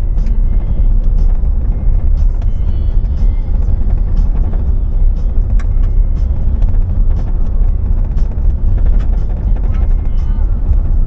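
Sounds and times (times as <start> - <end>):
car engine and road noise: 0.0 - 11.0
light clicks and rattles: 0.2 - 11.0.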